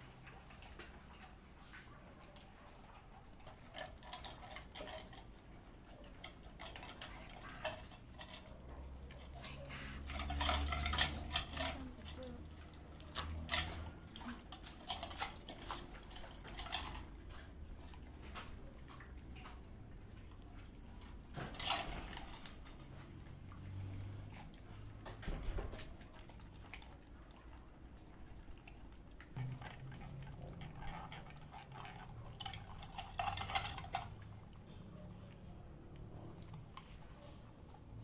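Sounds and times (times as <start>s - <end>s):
dogs eating: 0.0s - 38.0s
metal bowls clinking and scraping: 0.0s - 38.0s.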